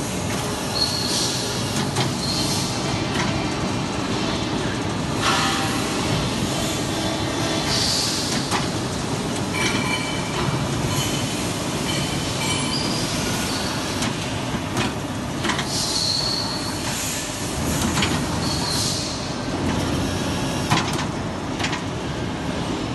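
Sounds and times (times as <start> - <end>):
pipe-bending machine running: 0.0 - 22.9.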